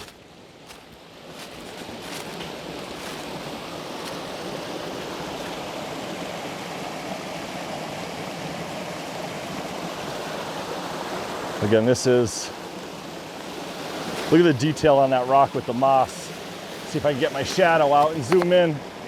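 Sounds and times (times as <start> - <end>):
creek water rushing over rocks: 0.0 - 19.0.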